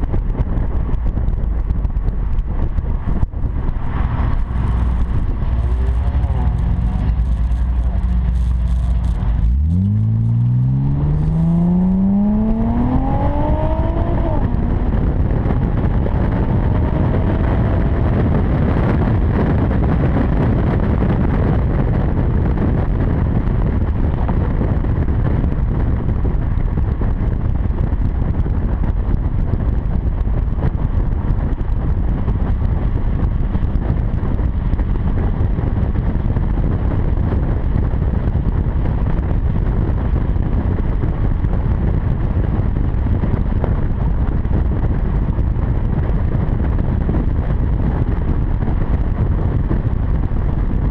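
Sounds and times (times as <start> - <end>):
car exhaust at cruise: 0.0 - 50.9
wind rushing over microphone: 0.0 - 50.9.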